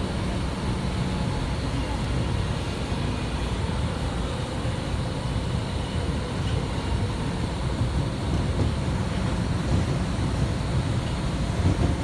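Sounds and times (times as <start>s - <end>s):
subway car wheels rumbling on rail: 0.0s - 12.0s.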